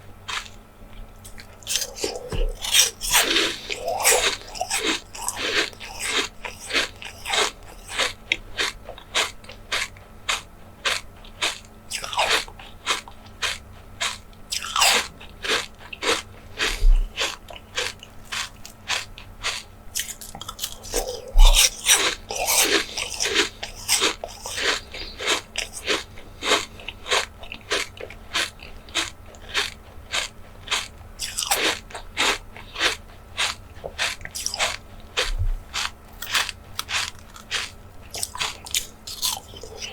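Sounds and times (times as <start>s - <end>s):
crisp chewing and biting: 0.1s - 39.9s.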